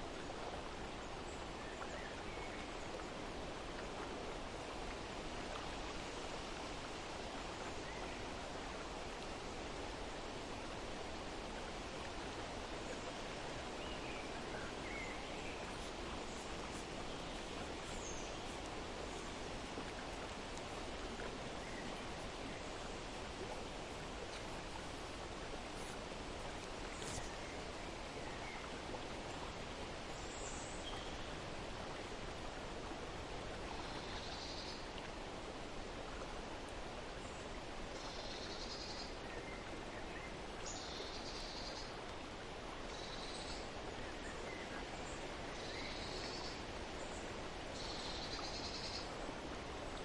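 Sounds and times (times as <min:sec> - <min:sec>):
stream rushing: 0:00.0 - 0:50.0.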